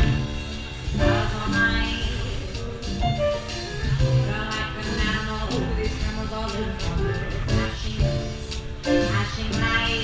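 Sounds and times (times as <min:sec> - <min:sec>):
drum kit: 0:00.0 - 0:10.0
upright double bass: 0:00.0 - 0:10.0
woman singing jazz: 0:00.0 - 0:10.0.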